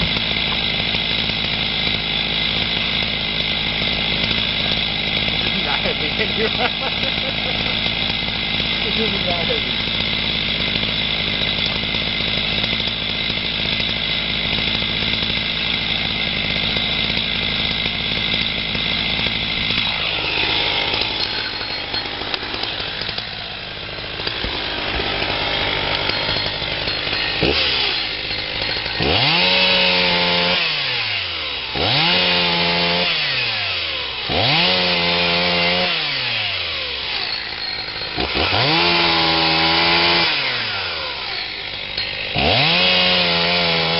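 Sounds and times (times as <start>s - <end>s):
chainsaw cutting logs: 0.0s - 43.9s.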